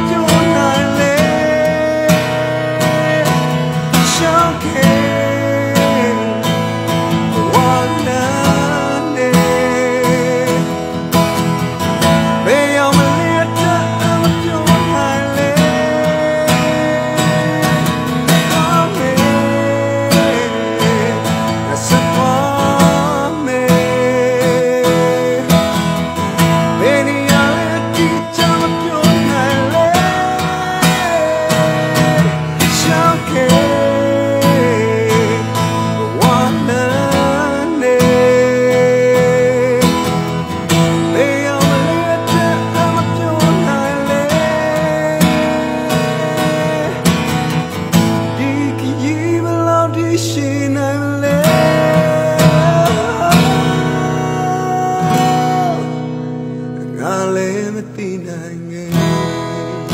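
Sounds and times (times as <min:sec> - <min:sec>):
guitar accompaniment: 0:00.0 - 0:59.9
person singing: 0:00.0 - 0:59.9.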